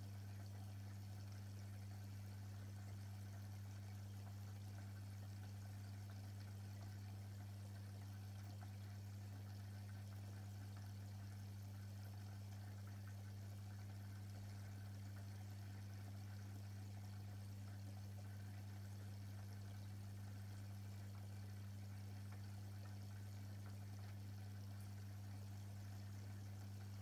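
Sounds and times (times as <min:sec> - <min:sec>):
aquarium pump humming: 0:00.0 - 0:27.0
water trickling: 0:00.0 - 0:27.0.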